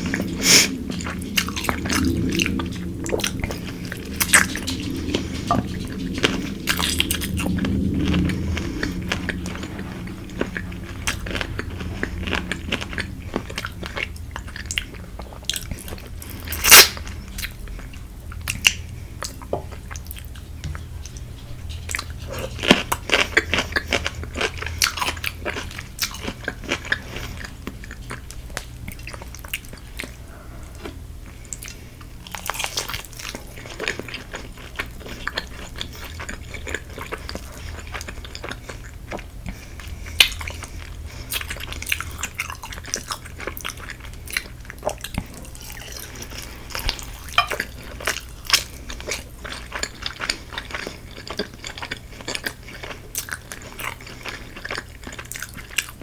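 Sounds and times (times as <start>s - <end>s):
crunching fried chicken: 0.0s - 21.2s, 21.9s - 56.0s.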